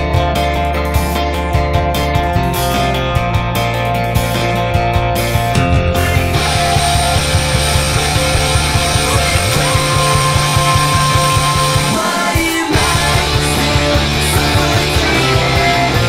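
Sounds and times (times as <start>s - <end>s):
punk rock backing track: 0.0s - 16.0s.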